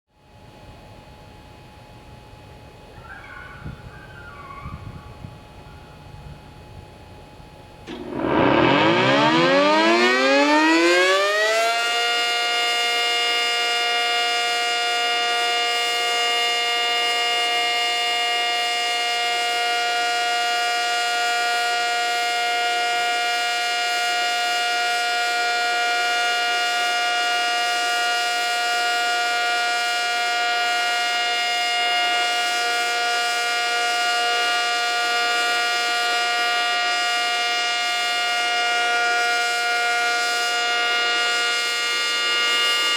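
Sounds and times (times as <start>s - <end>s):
warning siren winding up and wailing: 7.9s - 42.9s.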